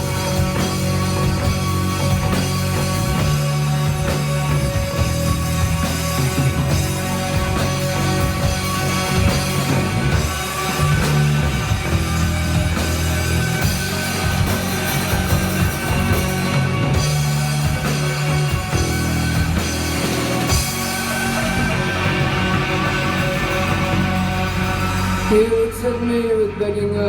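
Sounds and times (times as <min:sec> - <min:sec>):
live rock band playing: 0:00.0 - 0:26.6
electric guitar: 0:00.0 - 0:27.0.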